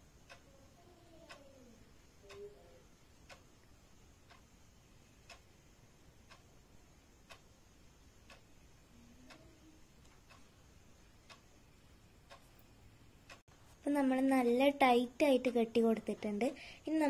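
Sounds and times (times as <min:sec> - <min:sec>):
clock ticking: 0:00.0 - 0:17.0.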